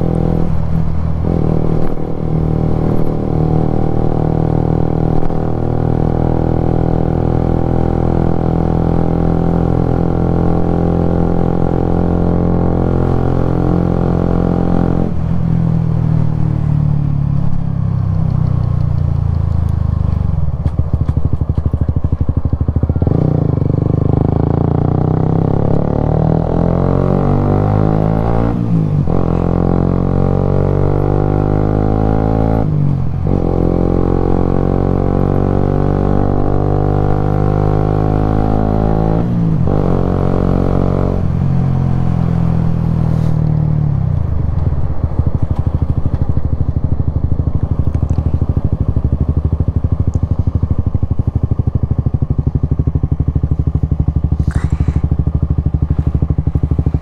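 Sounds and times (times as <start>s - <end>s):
motorcycle engine revving: 0.0s - 15.2s, 18.2s - 57.0s.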